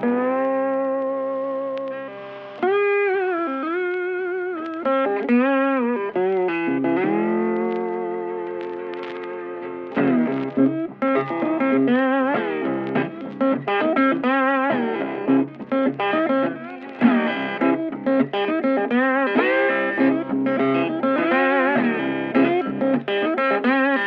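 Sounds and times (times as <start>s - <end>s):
electric guitar melody: 0.0s - 24.0s.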